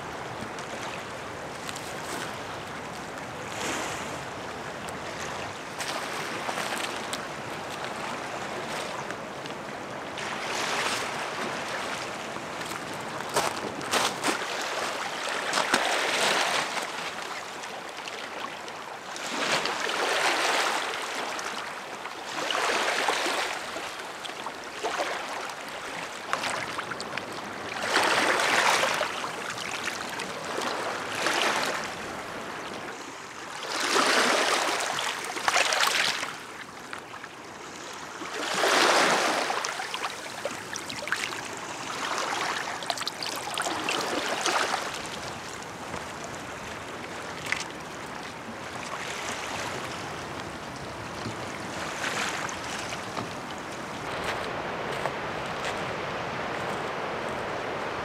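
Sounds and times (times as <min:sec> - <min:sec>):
small waves washing over pebbles: 0:00.5 - 0:04.4, 0:05.0 - 0:09.2, 0:10.2 - 0:18.4, 0:19.0 - 0:57.4.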